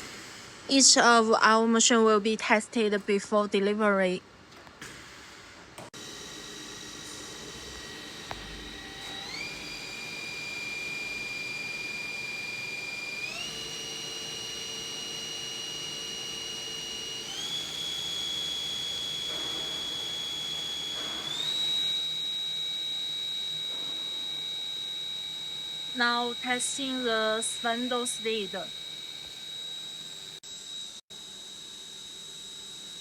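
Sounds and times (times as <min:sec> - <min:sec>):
machine spindle whine: 0:06.0 - 0:33.0.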